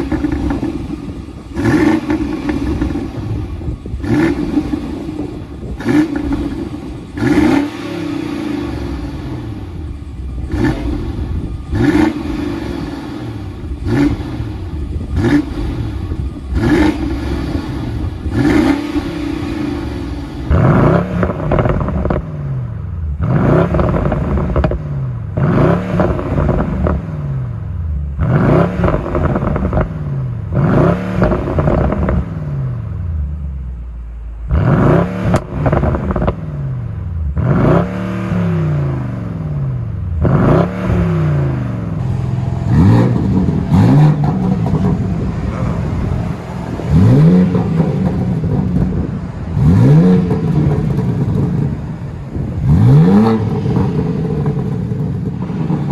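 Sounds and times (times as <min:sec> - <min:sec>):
car engines revving hard: 0:00.0 - 0:33.5, 0:34.4 - 0:55.9.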